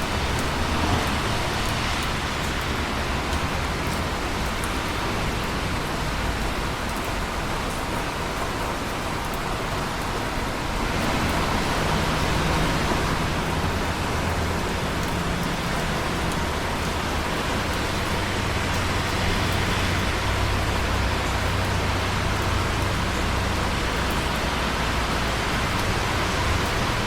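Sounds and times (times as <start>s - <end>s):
raindrop ticks: 0.0s - 27.0s
steady rain falling: 0.0s - 27.0s.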